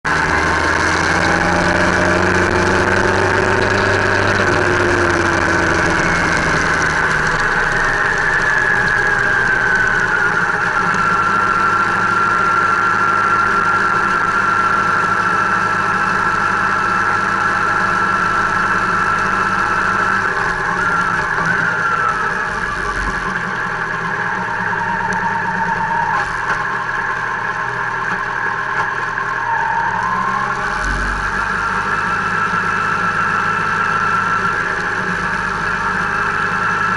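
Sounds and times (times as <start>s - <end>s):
motorcycle engine running: 0.0s - 36.9s
wind and road rush: 0.1s - 36.9s.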